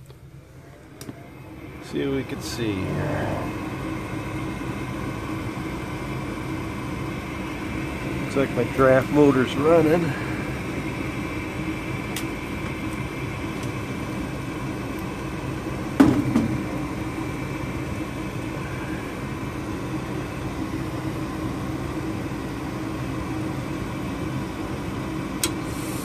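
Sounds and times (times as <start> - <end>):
furnace inducer motor humming: 0.0 - 26.0.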